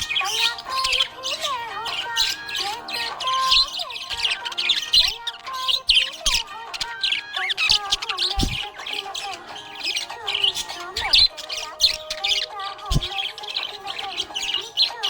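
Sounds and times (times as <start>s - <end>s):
background music melody: 0.0s - 15.0s
budgerigars chirping: 0.0s - 15.0s.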